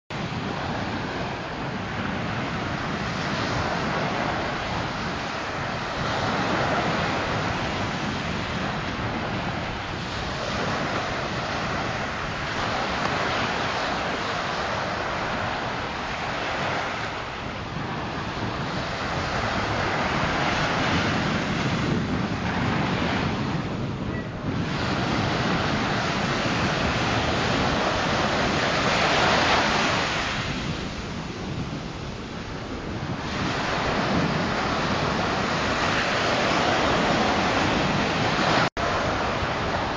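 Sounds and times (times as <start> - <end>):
surf breaking on beach: 0.1 - 39.9
wind buffeting microphone: 0.1 - 39.9.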